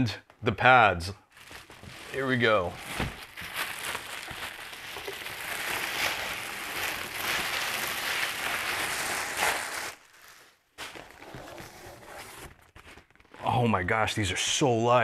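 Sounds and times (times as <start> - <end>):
plastic wrap crinkling: 1.3 - 13.4.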